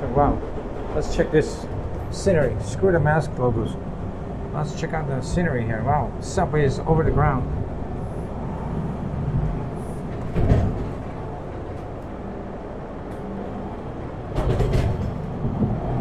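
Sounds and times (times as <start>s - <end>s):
subway car rumbling on rails: 0.0s - 16.0s.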